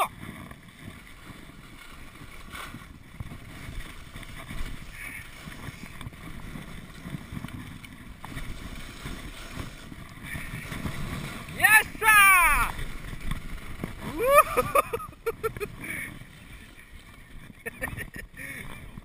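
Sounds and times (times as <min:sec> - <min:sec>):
skis sliding on snow: 0:00.0 - 0:19.0
wind buffeting microphone: 0:00.0 - 0:19.0.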